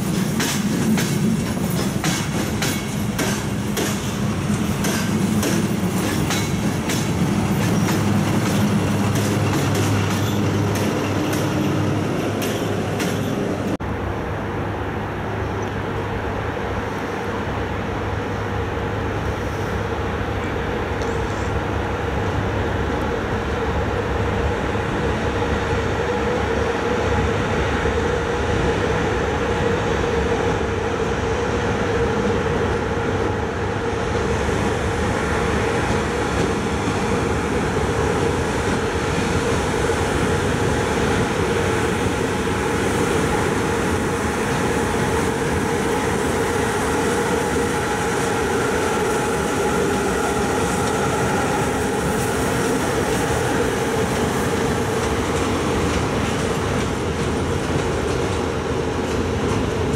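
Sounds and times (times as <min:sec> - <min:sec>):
electric locomotive rumble: 0:00.0 - 0:59.9.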